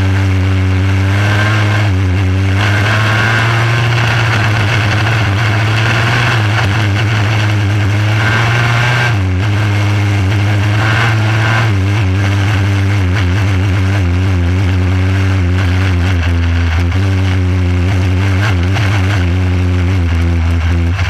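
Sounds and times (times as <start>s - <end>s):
race car engine running: 0.0s - 21.0s.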